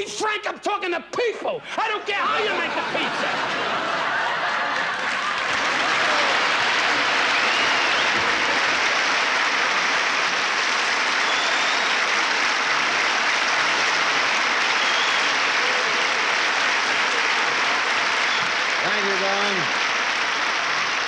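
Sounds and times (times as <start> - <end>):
audience applause: 1.8 - 21.0.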